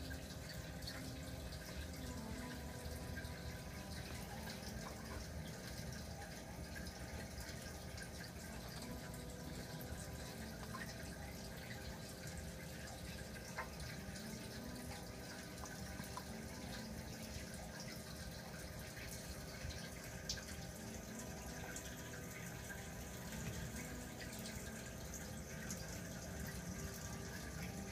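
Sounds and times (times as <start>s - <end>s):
low steady hum: 0.0s - 27.9s
small water plinks: 0.0s - 27.9s
water trickling and dripping: 0.0s - 27.9s.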